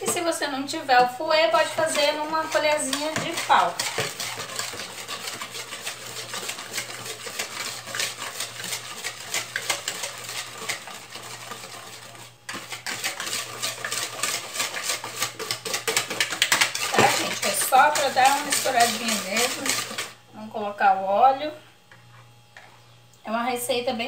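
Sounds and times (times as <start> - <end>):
whisk clicking against bowl: 0.0 - 20.2.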